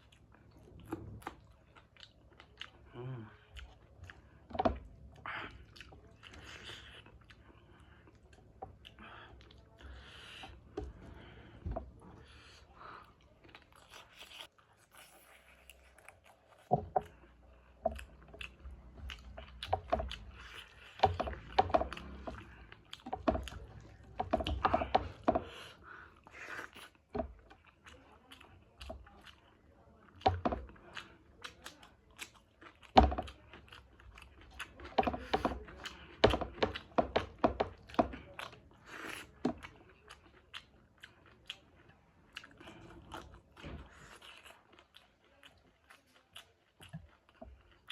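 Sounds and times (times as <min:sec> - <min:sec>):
person chewing and crunching food: 0:00.0 - 0:47.9.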